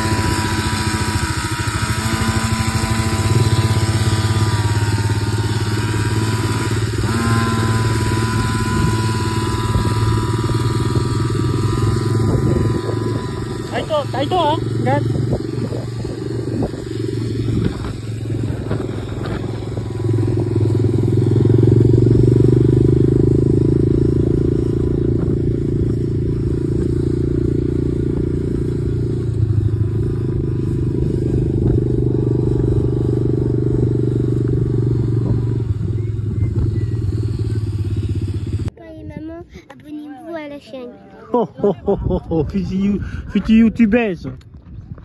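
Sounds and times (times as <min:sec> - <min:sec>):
dirt bike engine running: 0:00.0 - 0:38.8.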